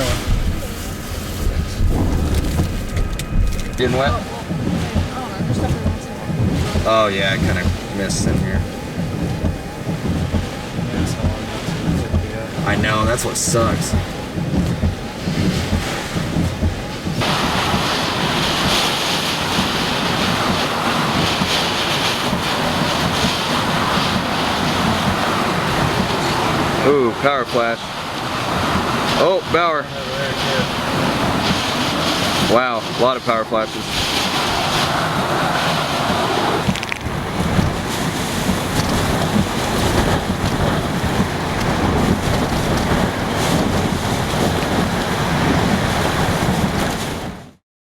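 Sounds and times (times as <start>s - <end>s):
heavy driving rain: 0.0s - 47.6s
strong wind: 0.0s - 47.6s
wind gusts buffeting microphone: 0.0s - 47.6s.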